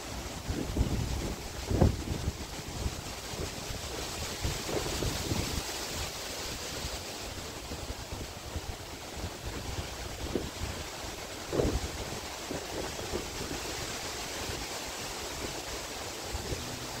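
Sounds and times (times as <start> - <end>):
outdoor hiss: 0.0 - 17.0
wind buffeting microphone: 0.0 - 17.0.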